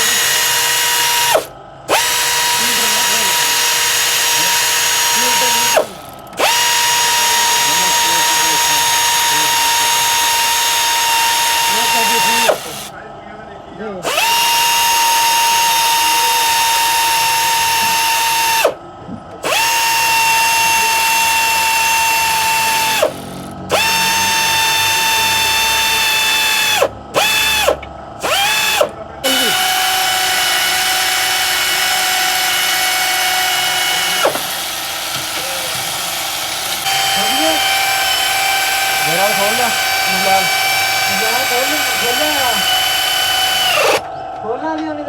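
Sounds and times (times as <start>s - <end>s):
power drill whining: 0.0s - 12.9s, 14.0s - 18.8s, 19.4s - 44.4s.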